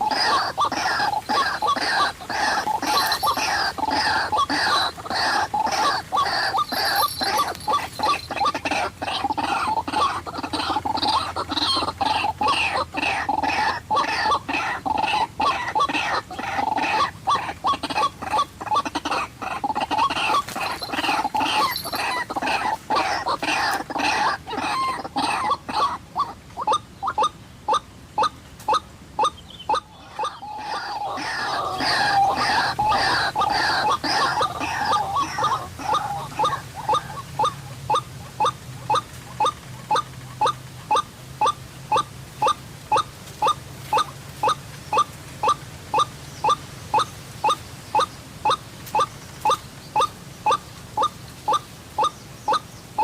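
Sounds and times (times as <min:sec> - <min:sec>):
waterhens calling harshly: 0:00.0 - 0:53.0.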